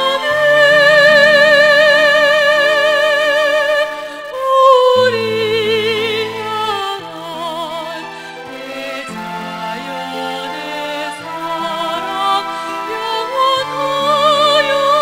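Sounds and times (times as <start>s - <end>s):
sustained backing chords: 0.0s - 15.0s
woman singing with vibrato: 0.0s - 15.0s.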